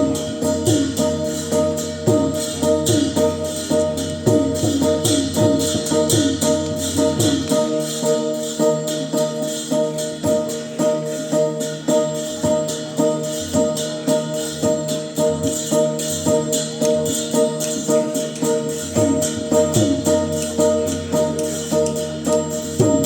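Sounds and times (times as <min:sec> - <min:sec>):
jingling cymbals: 0:00.0 - 0:23.0
pitched metal percussion tones: 0:00.0 - 0:23.0.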